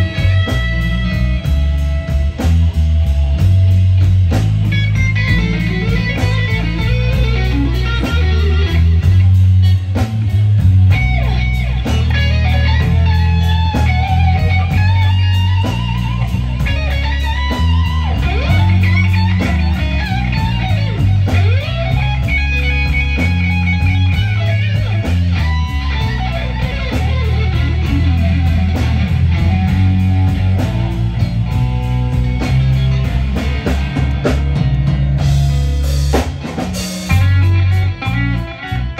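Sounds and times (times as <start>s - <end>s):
blues band playing: 0.0s - 38.9s
electric guitar solo with bends: 4.6s - 9.7s, 10.3s - 34.7s, 36.4s - 38.9s.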